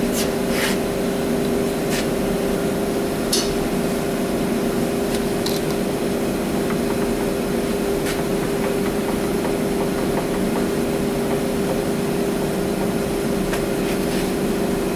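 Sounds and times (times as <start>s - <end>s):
steady machine hum: 0.0s - 14.9s.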